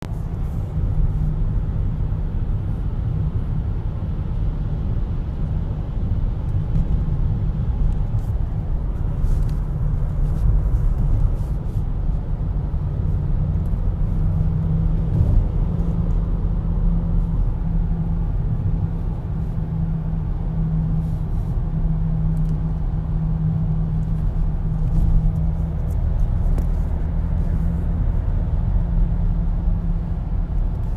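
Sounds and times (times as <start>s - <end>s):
road noise: 0.0s - 30.9s.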